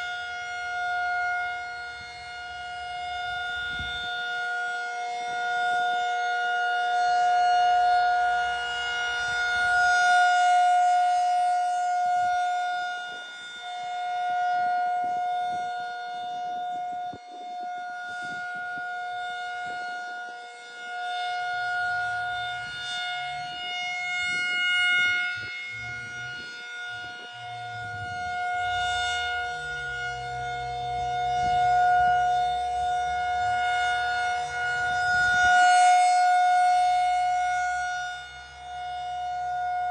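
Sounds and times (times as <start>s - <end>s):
tornado siren steady alert tone: 0.0s - 39.9s.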